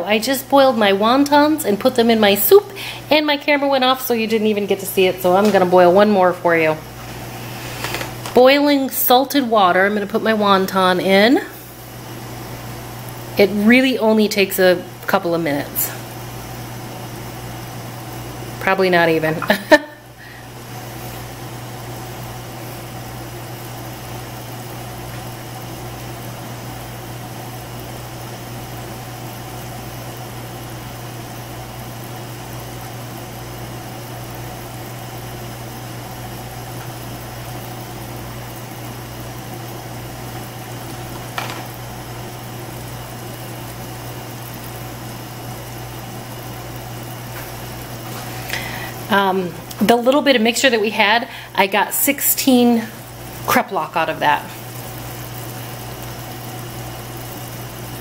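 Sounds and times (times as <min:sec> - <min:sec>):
water boiling and bubbling: 0:00.0 - 0:58.0.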